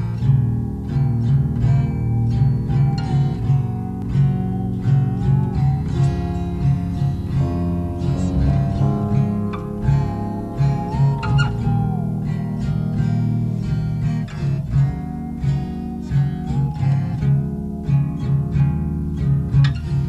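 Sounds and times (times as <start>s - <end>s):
electric bass riff: 0.0s - 20.0s
electric guitar: 0.0s - 20.0s.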